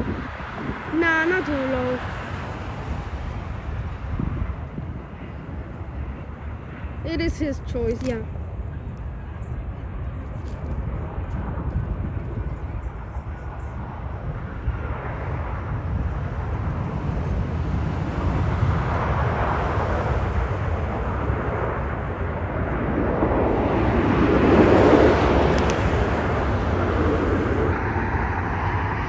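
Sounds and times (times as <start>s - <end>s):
jet engines roaring in reverse thrust: 0.0s - 29.0s.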